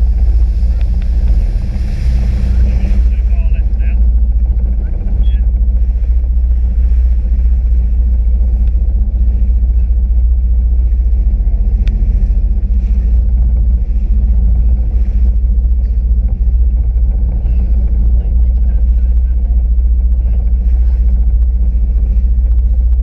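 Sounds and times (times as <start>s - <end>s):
jet ski engine rumble: 0.0s - 23.0s.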